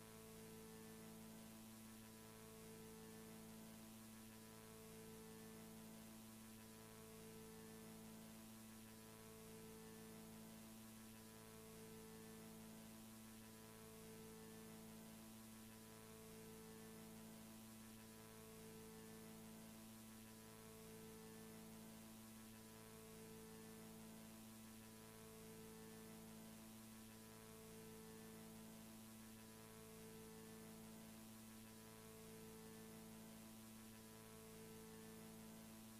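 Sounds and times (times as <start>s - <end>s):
tape hiss: 0.0s - 35.9s.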